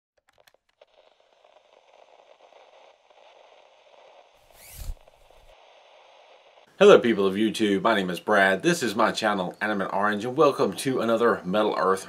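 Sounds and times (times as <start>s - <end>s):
static crackle: 0.2s - 12.0s.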